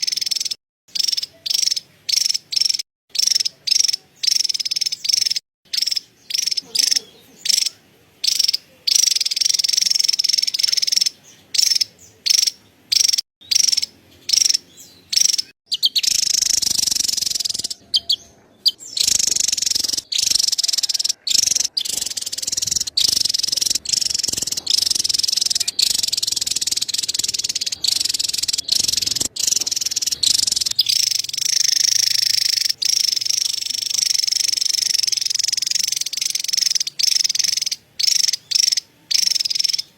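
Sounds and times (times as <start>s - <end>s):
bird rapid high chatter: 0.0s - 39.9s.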